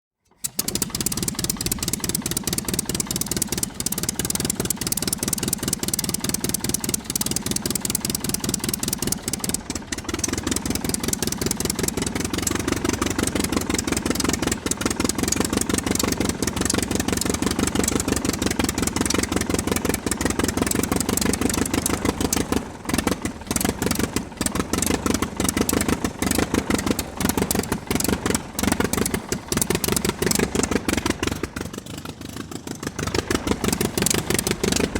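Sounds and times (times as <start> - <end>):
aircraft engine pulsing: 0.4 - 31.6, 32.9 - 34.9.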